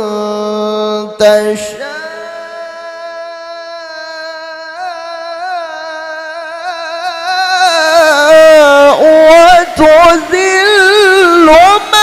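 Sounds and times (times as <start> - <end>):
person reciting in long sung note: 0.0 - 12.0.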